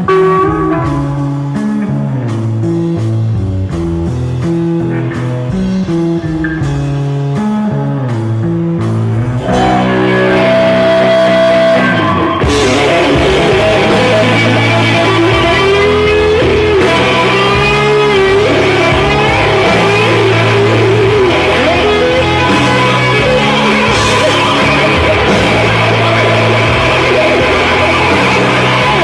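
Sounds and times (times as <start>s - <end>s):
bending lead guitar melody: 0.0s - 29.0s
electric guitar notes: 0.0s - 29.0s
live rock band playing: 0.0s - 29.0s.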